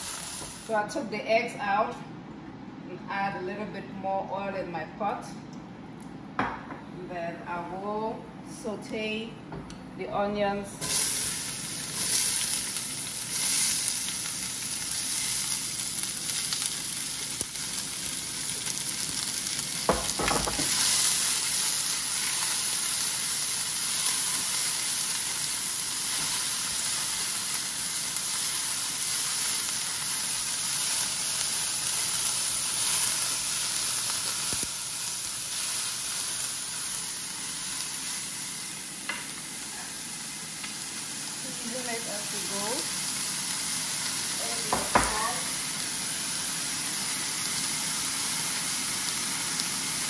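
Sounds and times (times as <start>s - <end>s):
vegetables sizzling in hot oil: 0.0s - 0.9s, 10.8s - 50.0s.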